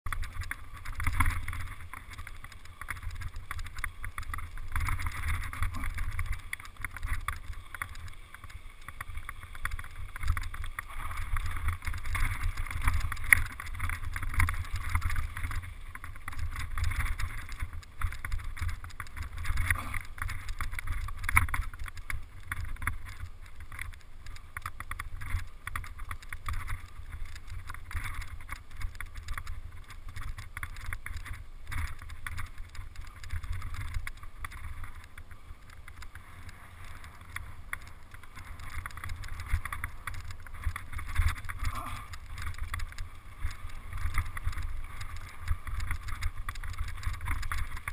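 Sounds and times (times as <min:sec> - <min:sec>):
bike rattling over bumps: 0:00.1 - 0:47.9
tyres on loose stones: 0:00.1 - 0:47.9.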